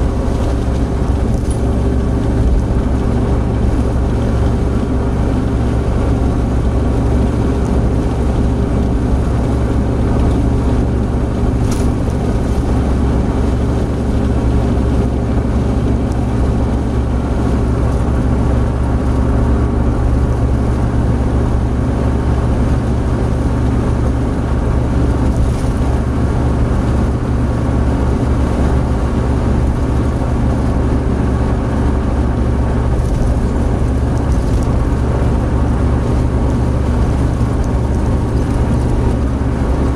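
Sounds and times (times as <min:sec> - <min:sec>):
engine drone: 0:00.0 - 0:39.9
road and wind noise: 0:00.0 - 0:39.9.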